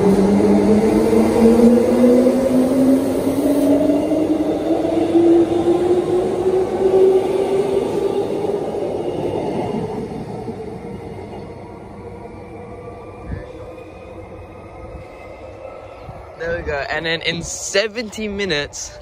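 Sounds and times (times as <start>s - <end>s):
rumble of train wheels: 0.0s - 19.0s.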